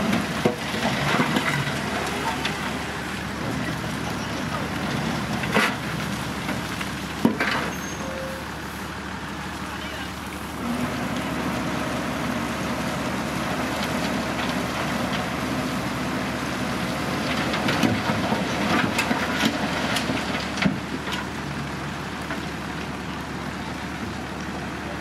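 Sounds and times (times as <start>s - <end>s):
rocks and soil clattering: 0.0s - 11.3s, 12.5s - 25.0s
truck engine running: 0.0s - 25.0s.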